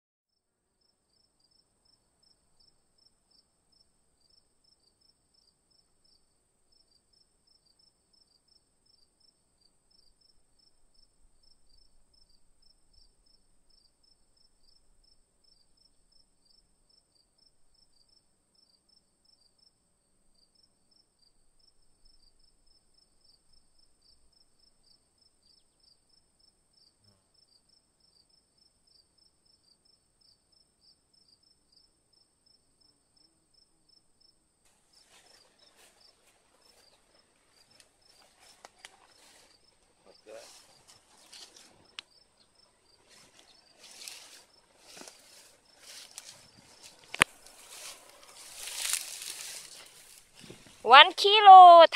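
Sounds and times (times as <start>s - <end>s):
crickets chirping: 0.8s - 50.8s.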